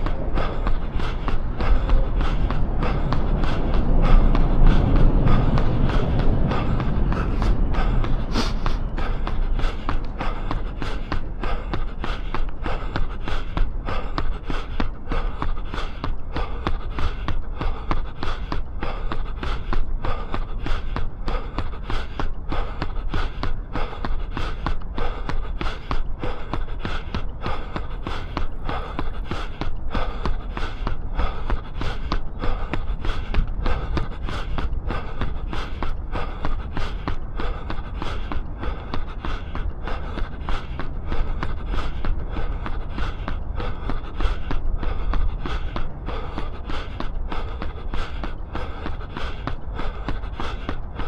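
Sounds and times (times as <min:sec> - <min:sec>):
heavy breathing: 0:00.0 - 0:51.0
running footsteps: 0:00.0 - 0:51.0
wind rumble on microphone: 0:00.0 - 0:51.0.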